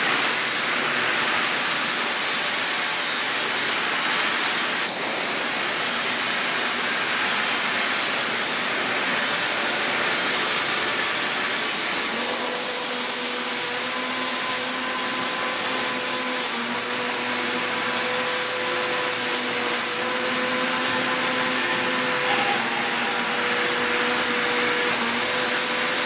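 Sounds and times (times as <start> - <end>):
welding arc hissing: 0.0 - 26.0.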